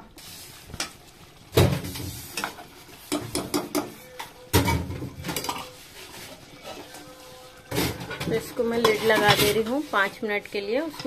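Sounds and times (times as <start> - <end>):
faint sizzle: 0.0 - 11.0
metal spatula scraping pot: 1.8 - 11.0.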